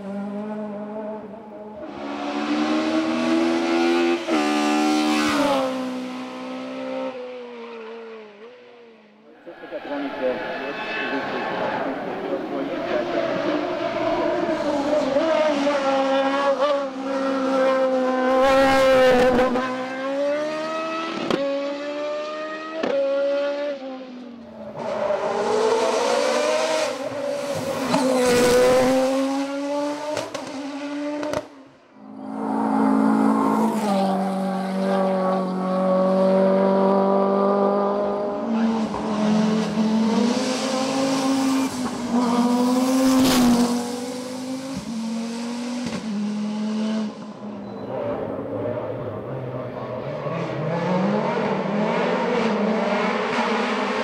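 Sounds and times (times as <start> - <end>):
race car engines at high revs: 0.0 - 54.0.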